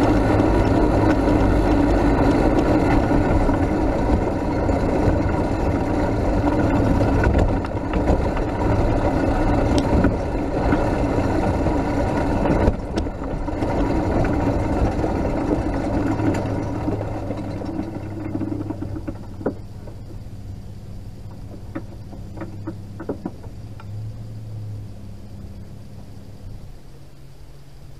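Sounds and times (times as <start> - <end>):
pickup engine running: 0.0 - 27.9
towed vehicle rumbling and rattling: 0.0 - 27.9.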